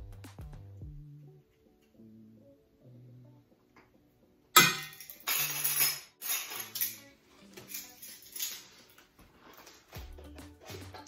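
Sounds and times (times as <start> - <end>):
acoustic guitar background music: 0.0 - 11.0.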